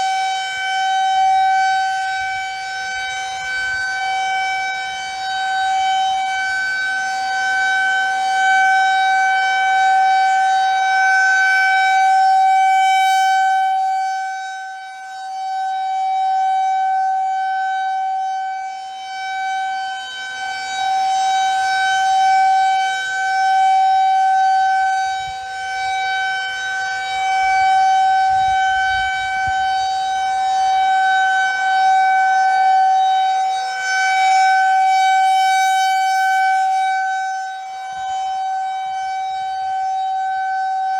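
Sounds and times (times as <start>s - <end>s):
rotating tornado siren: 0.0s - 40.9s.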